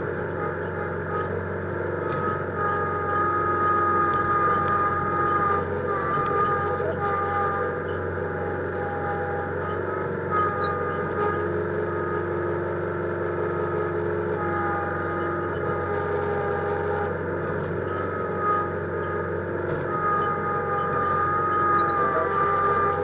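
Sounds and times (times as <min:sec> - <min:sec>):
steady high whine: 0:00.0 - 0:23.0
tractor diesel engine running: 0:00.0 - 0:23.0.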